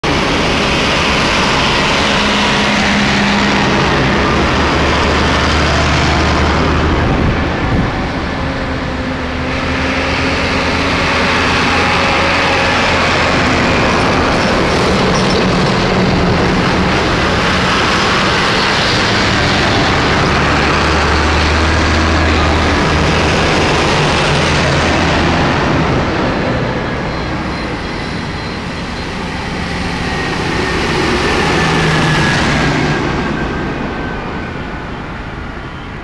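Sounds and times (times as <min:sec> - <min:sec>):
tractor diesel engines passing: 0:00.0 - 0:36.0.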